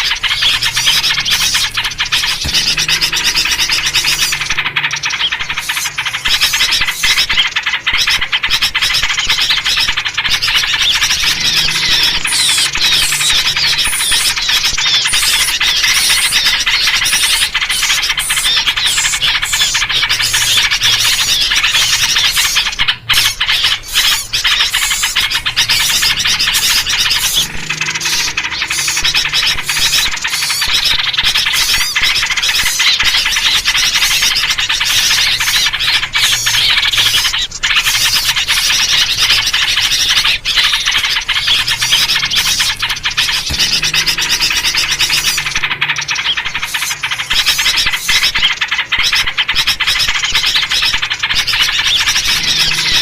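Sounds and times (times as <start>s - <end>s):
songbirds chattering and calling: 0.0s - 53.0s.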